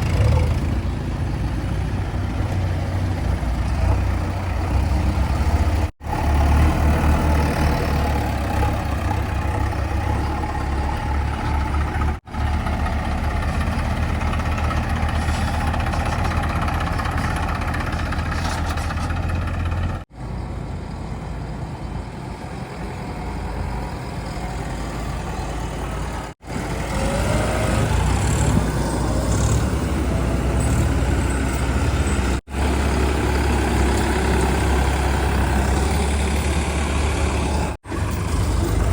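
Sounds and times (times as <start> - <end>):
heavy diesel engines rumbling: 0.0 - 38.9.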